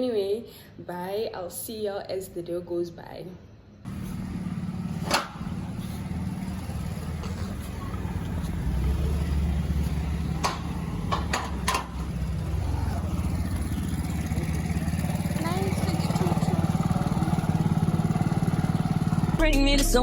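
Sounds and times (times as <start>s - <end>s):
vehicle engine humming: 3.9s - 20.0s.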